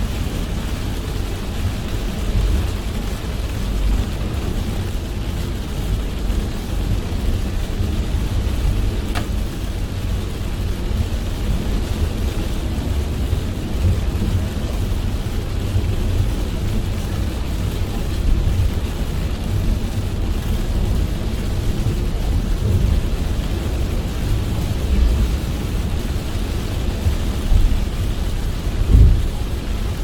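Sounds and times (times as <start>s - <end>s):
heavy rain on a car: 0.0s - 30.0s
tyres rumbling on road: 0.0s - 30.0s.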